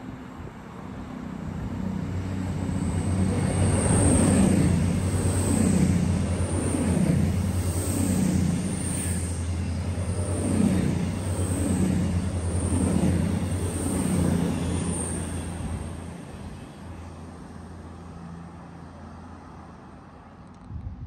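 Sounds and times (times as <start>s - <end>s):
diesel train passing: 0.0s - 20.4s.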